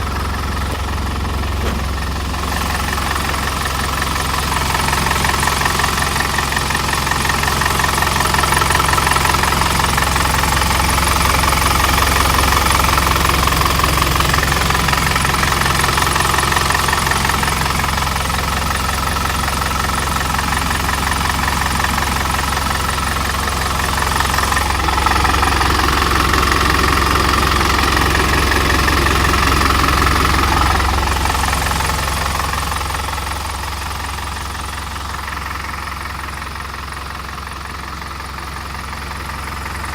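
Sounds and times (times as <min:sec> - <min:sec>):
truck engine idling with knocking: 0:00.0 - 0:39.9.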